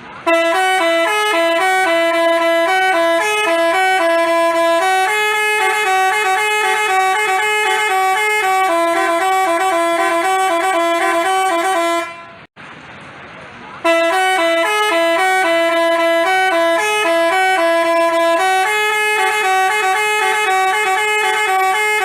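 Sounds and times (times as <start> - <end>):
musical air horn playing tune: 0.2 - 12.5, 13.8 - 22.0.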